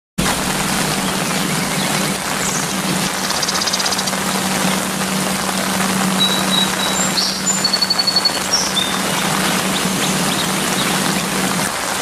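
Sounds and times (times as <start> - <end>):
low hum: 0.2 - 11.7
heavy rain on road and trees: 0.2 - 12.0.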